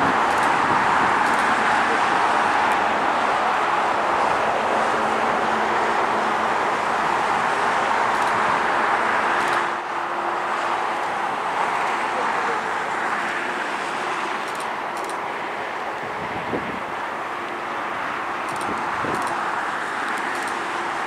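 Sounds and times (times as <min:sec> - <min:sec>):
jet engines whining: 0:00.0 - 0:21.0.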